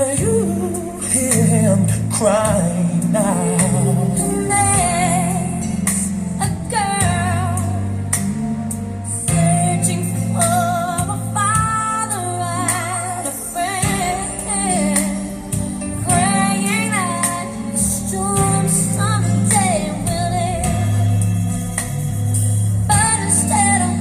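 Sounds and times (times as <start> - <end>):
woman singing gospel song: 0.0 - 8.1, 9.1 - 21.2, 22.9 - 24.0
steady bass line: 0.0 - 24.0.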